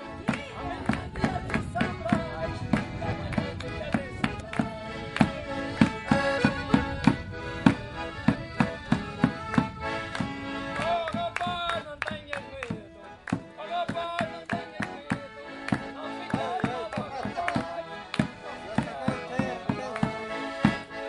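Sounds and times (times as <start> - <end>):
accordions playing folk dance tune: 0.0 - 21.0
bass drum beat: 0.2 - 20.9
hand clapping: 0.2 - 21.0.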